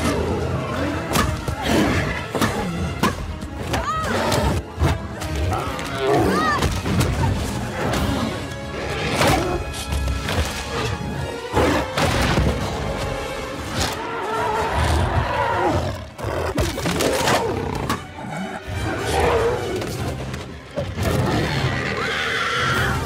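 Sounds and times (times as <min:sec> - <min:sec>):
giant creatures roaring: 0:00.0 - 0:03.0, 0:03.6 - 0:09.9, 0:13.5 - 0:23.0
dramatic orchestral score: 0:00.0 - 0:23.0.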